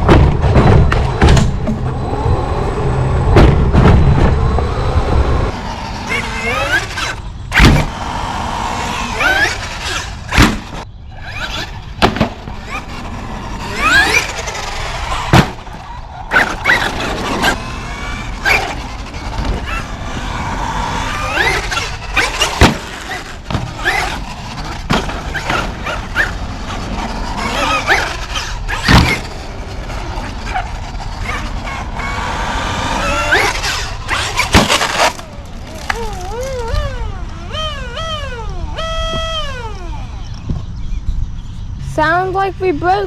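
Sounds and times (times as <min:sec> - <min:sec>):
sharp bangs from landings: 0:00.0 - 0:41.0
rc truck motors whining: 0:00.0 - 0:43.0.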